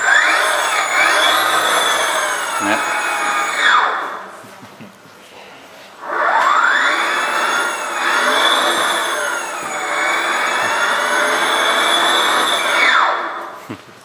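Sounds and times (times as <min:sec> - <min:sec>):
electric motorcycle motor whining: 0:00.0 - 0:04.2, 0:06.0 - 0:13.3
thin high electronic tone: 0:00.0 - 0:04.3, 0:06.0 - 0:13.3.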